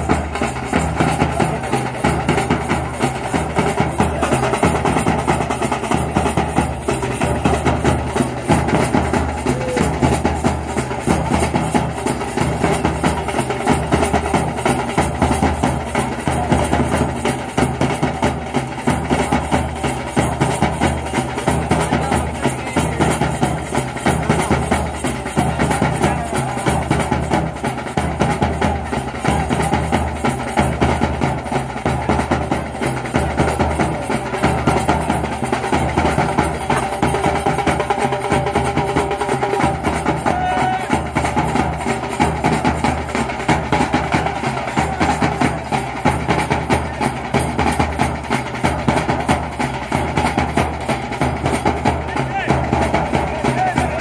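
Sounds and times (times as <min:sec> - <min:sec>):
drum and percussion music: 0:00.0 - 0:54.0.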